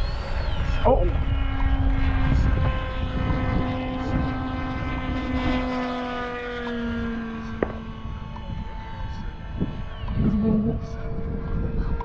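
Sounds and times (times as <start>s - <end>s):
model airplane engine droning: 0.0s - 12.0s
wind rumble on microphone: 0.0s - 12.0s.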